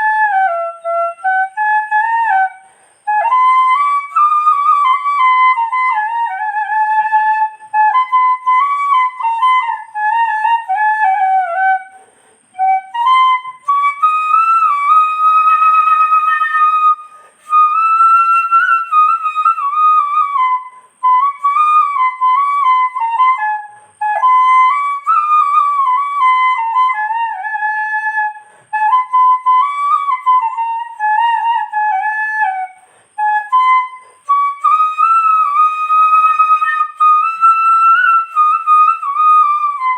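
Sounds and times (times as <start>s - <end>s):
solo flute melody: 0.0s - 39.9s.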